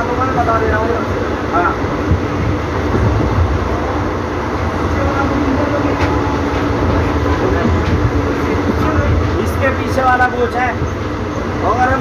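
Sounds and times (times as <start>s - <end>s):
train rumble and rail noise: 0.0s - 12.0s.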